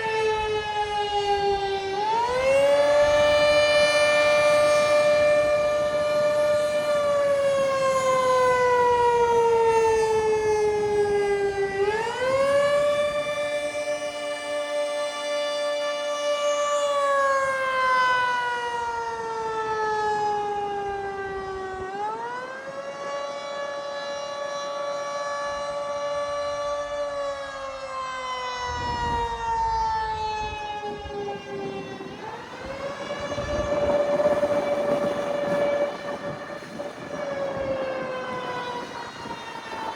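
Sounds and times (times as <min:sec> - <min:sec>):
faint lower siren tone: 0:00.0 - 0:39.9
warning siren winding up and down: 0:00.0 - 0:39.9.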